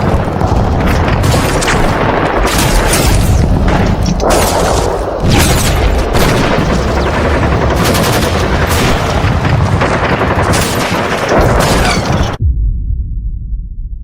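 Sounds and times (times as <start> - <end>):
low rumble: 0.0 - 11.7, 12.3 - 14.0
machine-gun fire: 0.0 - 12.4
explosion booms: 0.0 - 13.8.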